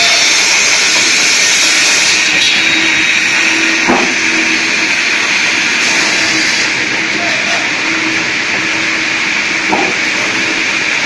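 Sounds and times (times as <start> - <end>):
sawmill blade sawing log: 0.0 - 11.0.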